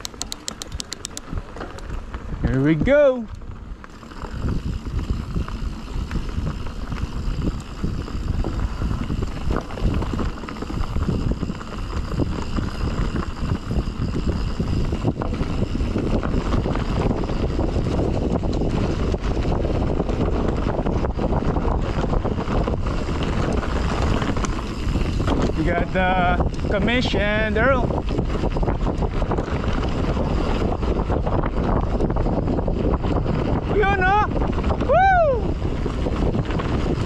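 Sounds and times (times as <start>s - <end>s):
bike clattering over rough ground: 0.0s - 37.0s
rumble of knobby tyres: 0.0s - 37.0s
wind buffeting microphone: 0.0s - 37.0s.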